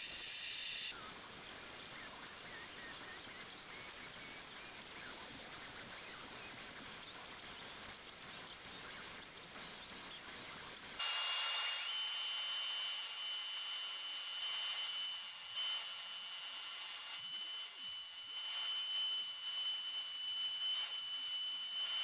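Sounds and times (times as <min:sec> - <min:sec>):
router whining through wood: 0:00.0 - 0:01.0, 0:02.4 - 0:22.0.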